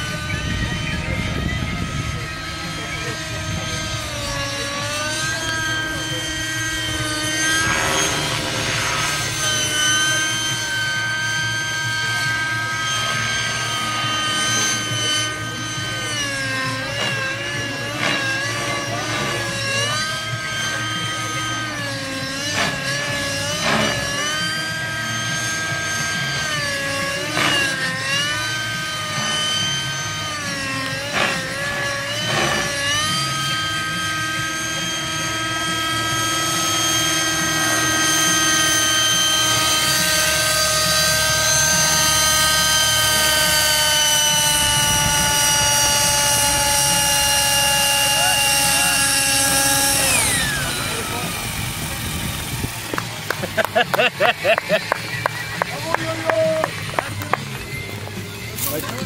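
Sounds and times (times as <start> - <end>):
model helicopter whine: 0.0 - 59.0.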